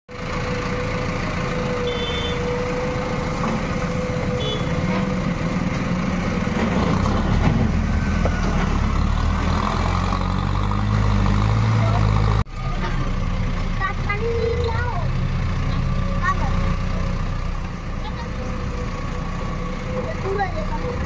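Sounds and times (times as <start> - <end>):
diesel engine rumble: 0.1 - 21.0.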